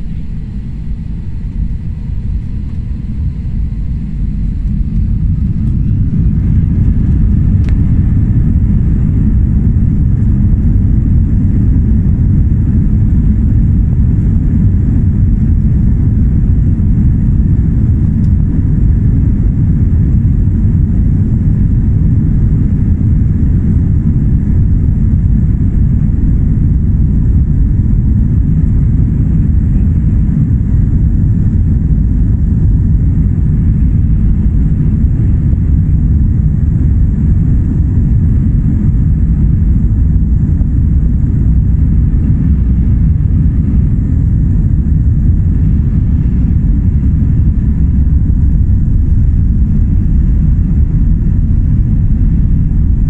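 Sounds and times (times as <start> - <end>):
jet cabin low rumble: 0.0 - 53.0.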